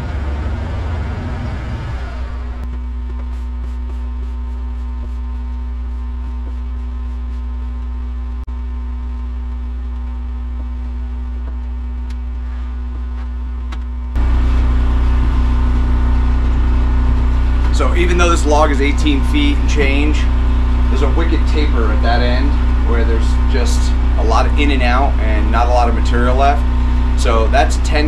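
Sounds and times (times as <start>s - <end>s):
sawmill engine idling: 0.0s - 28.0s.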